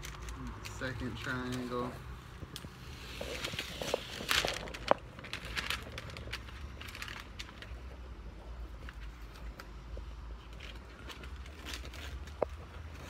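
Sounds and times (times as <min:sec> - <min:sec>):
masking tape peeling and crinkling: 0:00.0 - 0:13.0.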